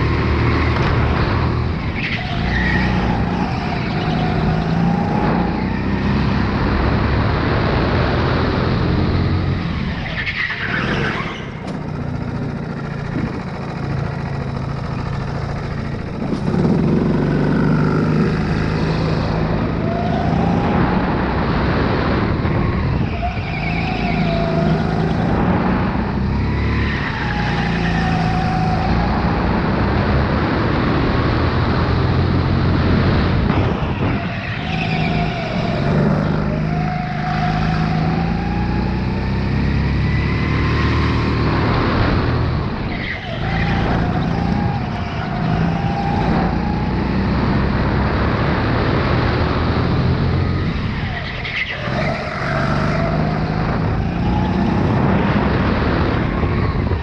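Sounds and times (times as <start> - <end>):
go-kart engine at full throttle: 0.0 - 57.0.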